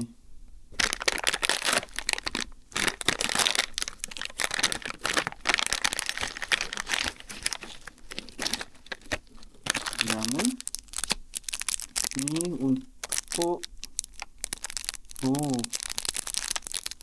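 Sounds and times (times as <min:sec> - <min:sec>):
plastic packaging crinkling: 0:00.7 - 0:17.0.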